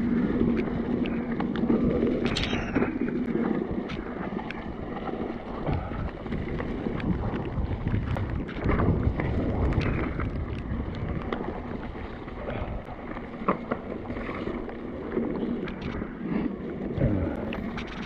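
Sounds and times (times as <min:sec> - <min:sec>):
mountain bike rolling on trail: 0:00.0 - 0:18.0
wind buffeting microphone: 0:00.0 - 0:18.0.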